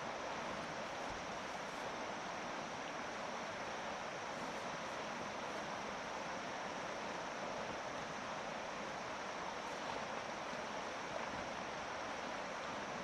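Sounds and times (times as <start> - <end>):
fast-flowing water rushing: 0.0 - 13.0.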